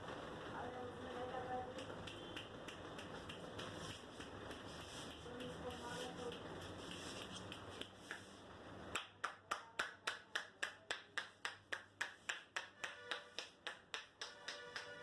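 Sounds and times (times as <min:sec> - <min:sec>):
hands clapping on scalp: 0:01.7 - 0:15.0.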